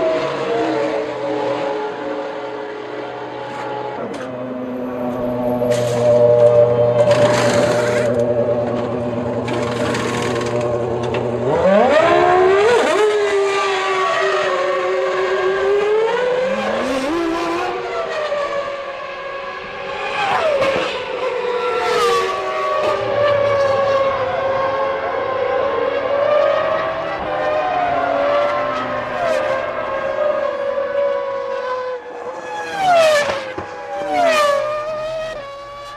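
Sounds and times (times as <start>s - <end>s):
racing car engines revving: 0.0s - 35.9s.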